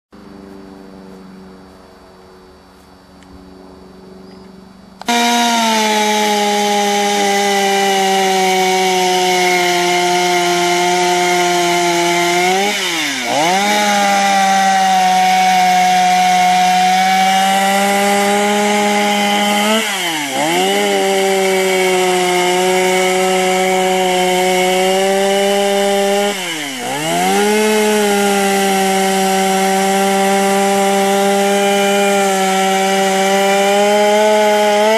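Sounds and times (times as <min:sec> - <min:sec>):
chainsaw carving wood: 0:05.0 - 0:34.9.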